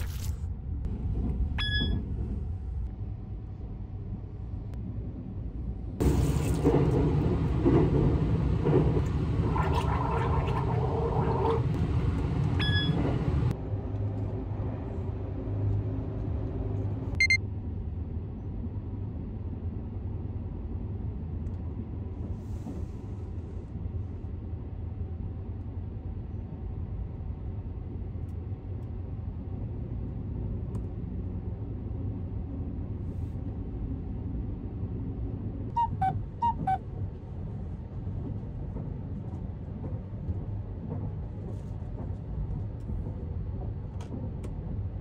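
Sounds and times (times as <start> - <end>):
train interior low rumble: 0.0 - 45.0.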